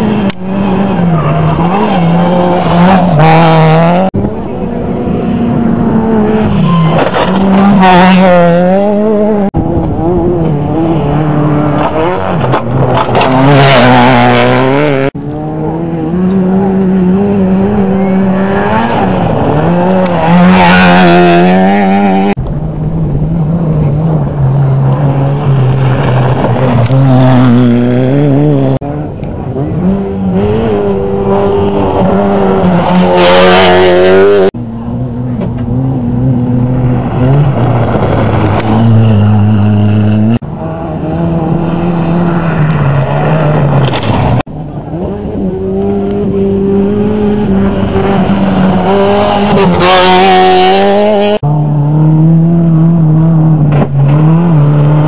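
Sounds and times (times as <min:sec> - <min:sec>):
rally cars passing with engines revving: 0:00.0 - 0:55.0.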